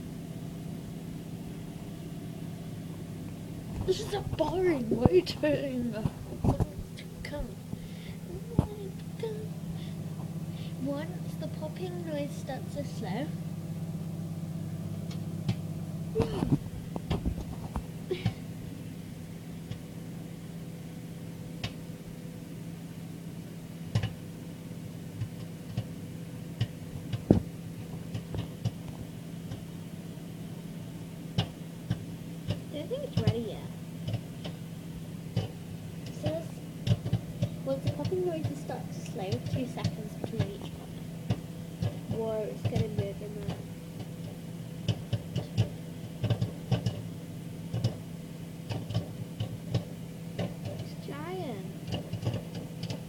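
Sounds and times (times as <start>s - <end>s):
microwave oven hum: 0.0s - 53.0s
popcorn popping: 2.7s - 53.0s.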